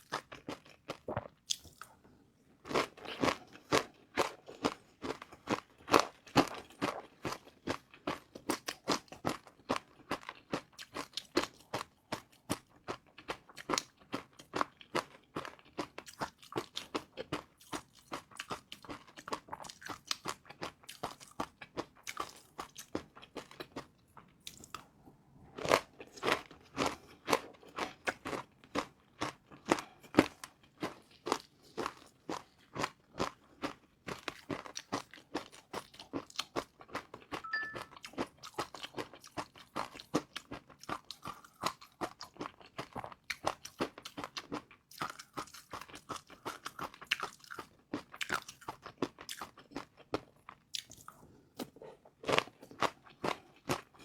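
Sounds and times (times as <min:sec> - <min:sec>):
crunchy noodles being chewed: 0:00.0 - 0:02.0, 0:02.6 - 0:54.0.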